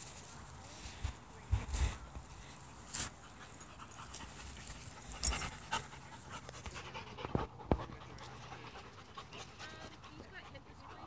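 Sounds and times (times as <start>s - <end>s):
dogs panting: 1.5s - 11.0s.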